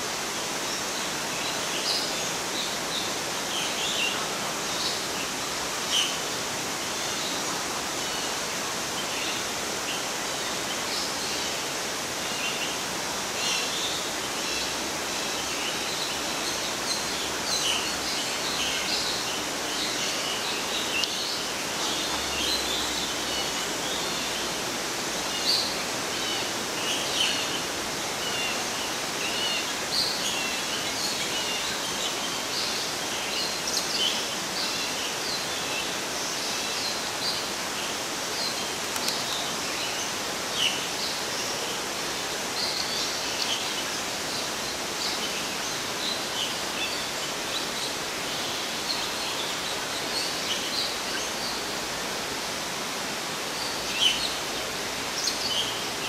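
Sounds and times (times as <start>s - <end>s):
steady outdoor hiss: 0.0s - 56.0s
small birds chirping: 0.4s - 56.0s.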